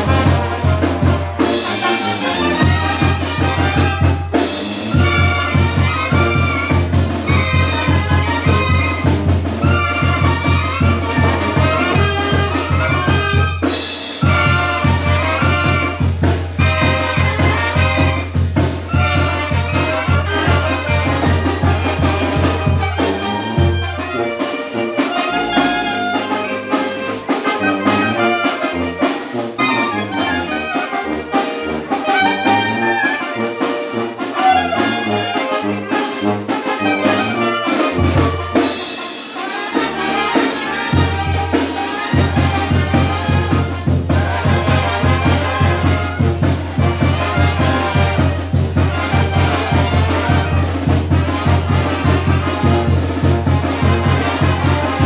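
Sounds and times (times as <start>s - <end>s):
wind band playing: 0.0s - 55.0s.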